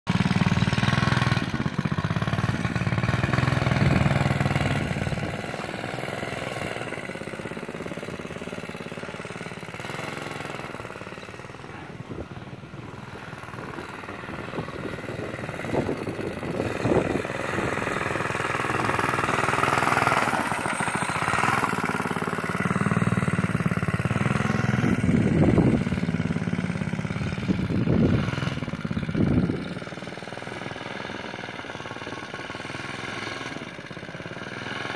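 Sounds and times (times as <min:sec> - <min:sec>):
mini bike engine revving: 0:00.1 - 0:34.9.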